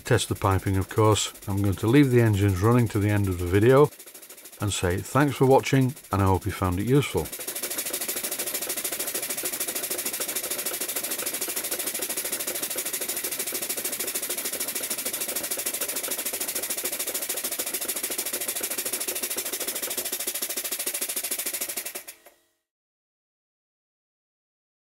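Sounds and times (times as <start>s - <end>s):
model steam engines chuffing: 0.0s - 22.3s.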